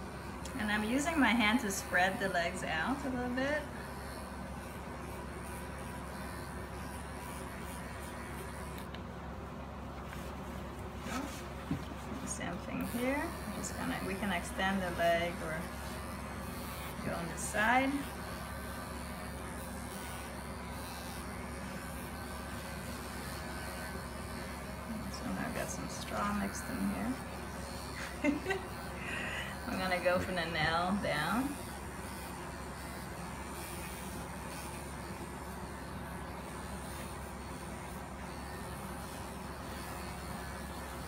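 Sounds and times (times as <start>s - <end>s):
electric clippers humming: 0.0s - 41.0s.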